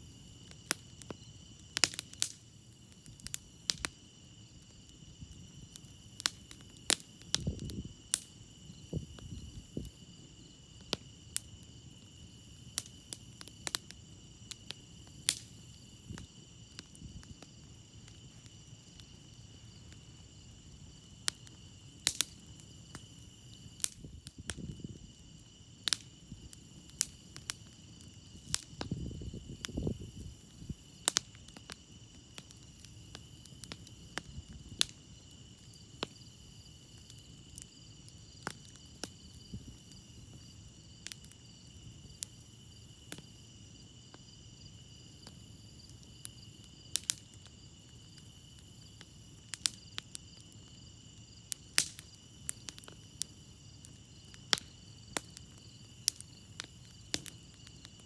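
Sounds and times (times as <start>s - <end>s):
campfire crackling and popping: 0.0s - 44.1s, 45.0s - 58.0s
crickets trilling: 0.0s - 58.0s.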